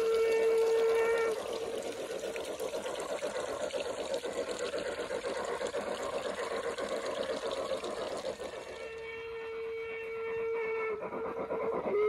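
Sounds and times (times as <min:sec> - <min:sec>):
model train running through snow: 0:00.0 - 0:12.0.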